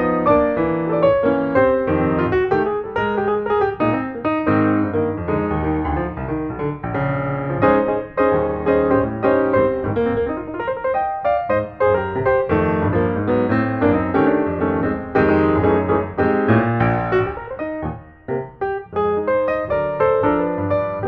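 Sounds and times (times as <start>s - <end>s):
piano music with quick notes: 0.0s - 21.0s.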